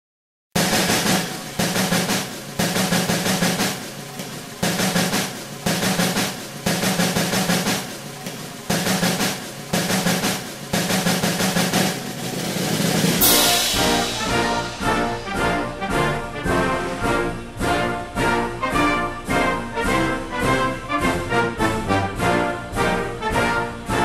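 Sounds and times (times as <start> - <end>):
snare drum rolls: 0.6 - 24.0.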